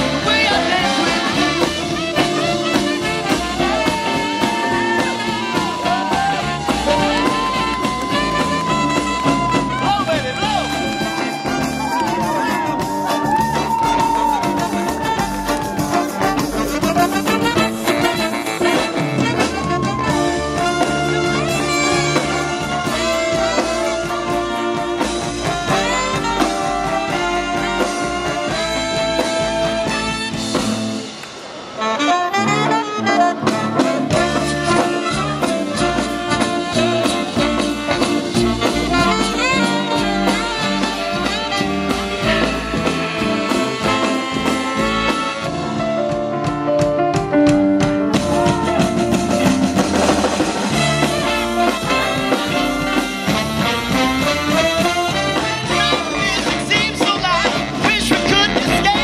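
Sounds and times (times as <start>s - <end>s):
swing band playing: 0.0s - 59.0s.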